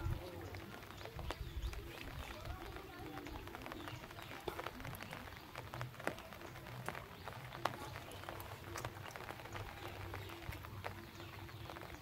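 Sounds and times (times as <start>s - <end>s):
faint irregular clicks: 0.4s - 12.0s.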